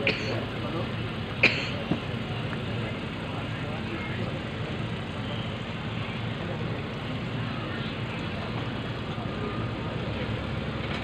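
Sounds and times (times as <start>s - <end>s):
crowd murmur: 0.0s - 11.0s
jeep engine rumbling: 0.0s - 11.0s.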